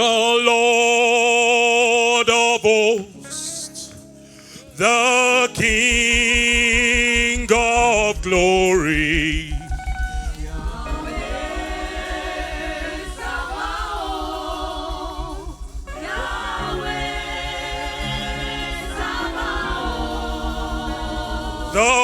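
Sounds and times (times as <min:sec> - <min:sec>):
choir singing worship chorus: 0:00.0 - 0:22.0.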